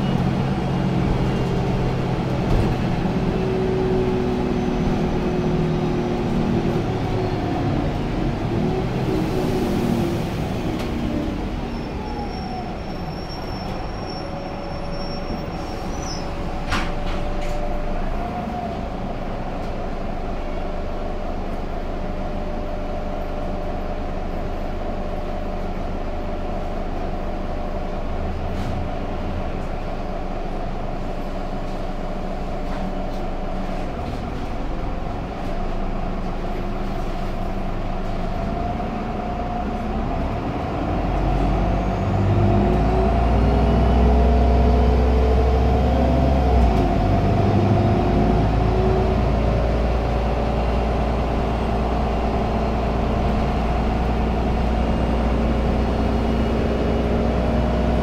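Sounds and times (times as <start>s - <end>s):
bus drivetrain whine: 0.0s - 58.0s
road and running noise: 9.9s - 58.0s.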